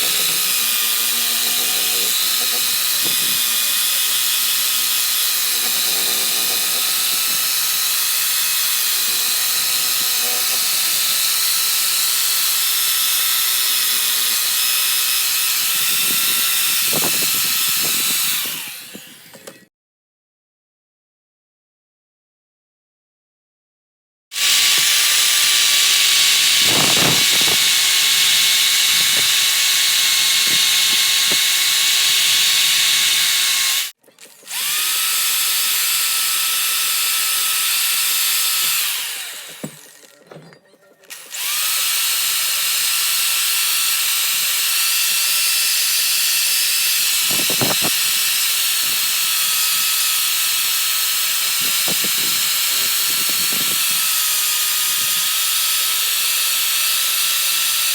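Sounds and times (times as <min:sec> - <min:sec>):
power tool whining: 0:00.0 - 0:19.7, 0:24.4 - 0:57.9.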